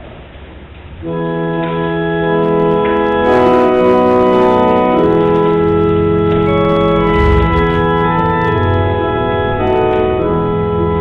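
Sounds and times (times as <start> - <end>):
church organ chords: 1.0 - 11.0.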